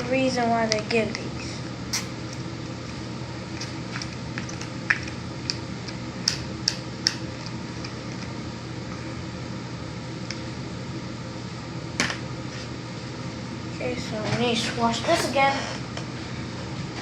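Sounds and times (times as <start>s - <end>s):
steady fan hum: 0.0s - 17.0s.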